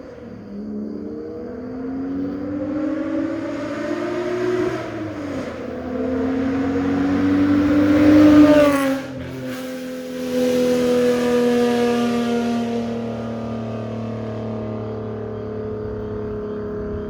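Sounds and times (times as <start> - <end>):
car exhaust accelerating: 0.0 - 17.0
exhaust drone: 0.0 - 17.0.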